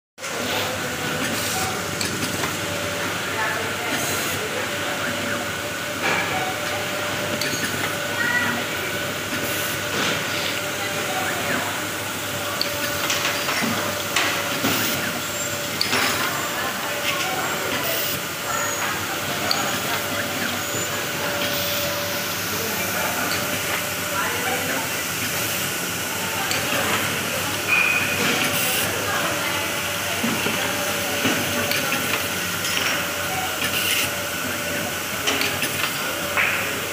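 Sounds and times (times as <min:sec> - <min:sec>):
machine mechanical hum: 0:00.2 - 0:36.9.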